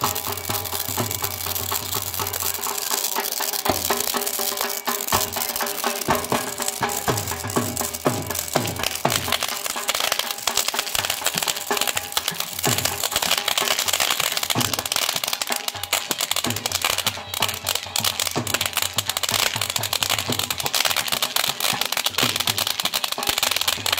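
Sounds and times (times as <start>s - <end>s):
firework fountain crackling: 0.0s - 23.9s.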